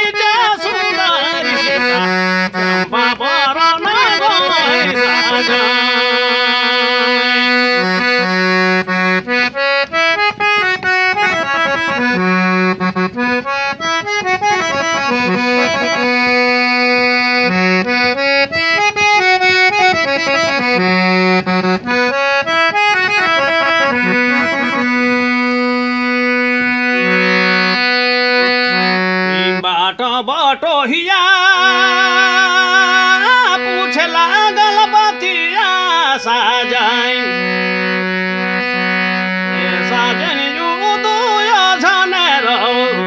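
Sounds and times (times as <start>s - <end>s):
harmonium melody: 0.0s - 43.0s.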